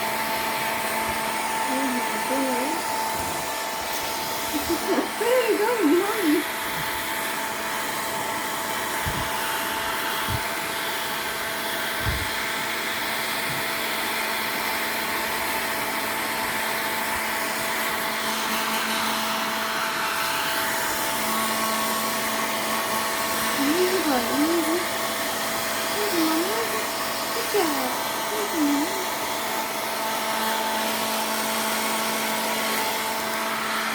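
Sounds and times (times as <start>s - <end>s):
hair dryer running: 0.0s - 33.9s.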